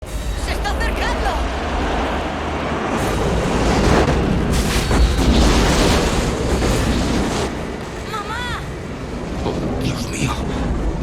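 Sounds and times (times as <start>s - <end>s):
volcanic eruption rumbling: 0.0s - 11.0s.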